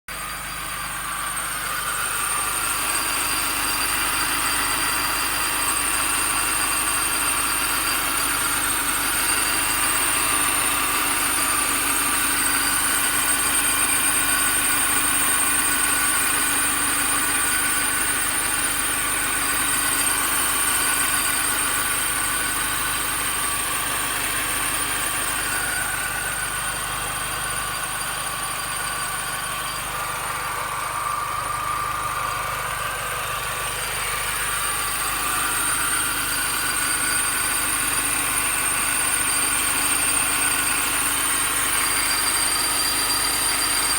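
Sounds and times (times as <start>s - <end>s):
car engine running: 0.1s - 43.9s.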